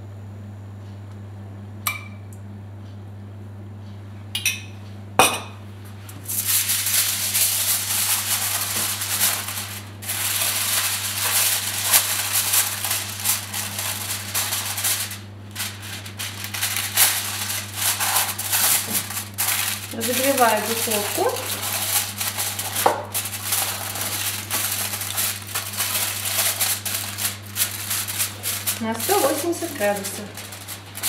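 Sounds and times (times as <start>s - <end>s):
kitchen foil crinkling: 6.1s - 31.0s.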